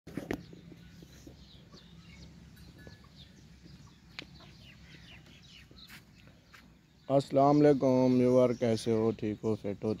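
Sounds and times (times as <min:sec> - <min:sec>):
bird chirps: 0:00.2 - 0:10.0.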